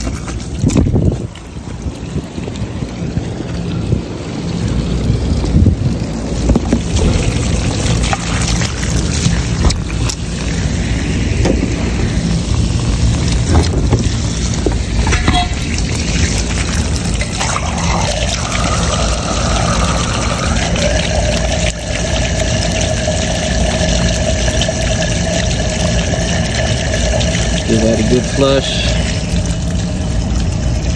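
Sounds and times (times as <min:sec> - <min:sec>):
low machine hum: 0:00.0 - 0:30.9
water gurgling through drain: 0:00.0 - 0:30.9.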